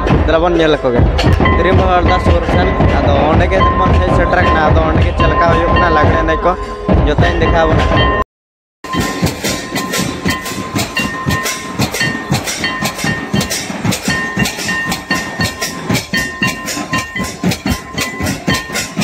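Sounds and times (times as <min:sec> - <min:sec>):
hand drums beating: 0:00.0 - 0:08.2, 0:08.8 - 0:19.0
high steady tone: 0:01.3 - 0:08.2, 0:08.8 - 0:19.0.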